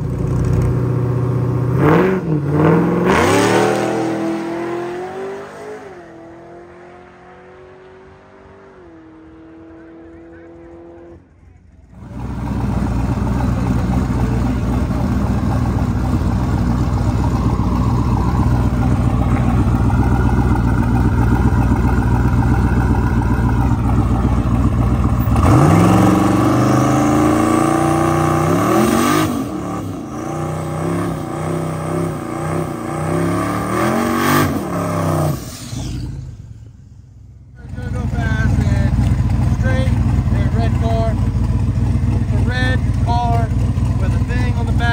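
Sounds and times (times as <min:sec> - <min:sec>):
car engine revving: 0:00.0 - 0:44.9
loud car engine running: 0:00.0 - 0:44.9.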